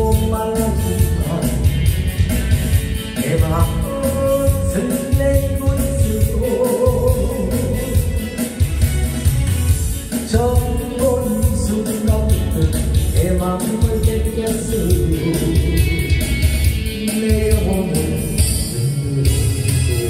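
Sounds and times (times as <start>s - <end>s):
man singing into microphone: 0.0s - 2.0s, 3.0s - 8.6s, 10.2s - 20.0s
karaoke backing track: 0.0s - 20.0s.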